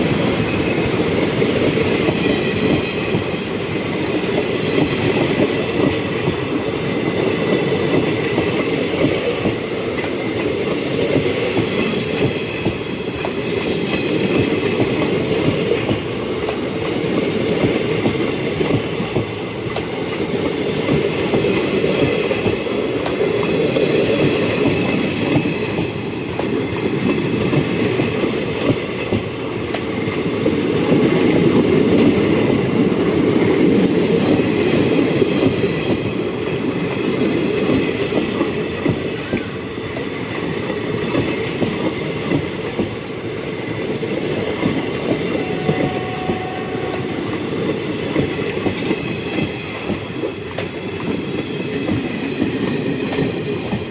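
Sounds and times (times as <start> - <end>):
railway wagons rumbling: 0.0 - 53.9.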